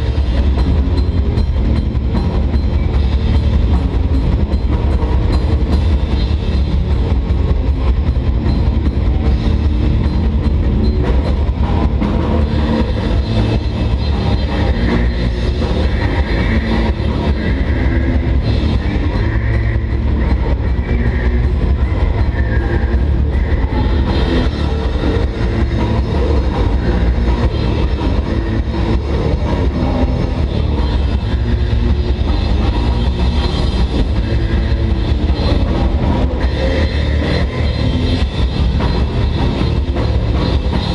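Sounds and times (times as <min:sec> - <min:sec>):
heavy metal band playing live: 0:00.0 - 0:40.9.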